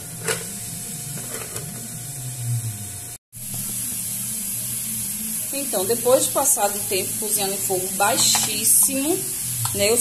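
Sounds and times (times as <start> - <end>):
covered pot humming and hissing: 0.0 - 10.0.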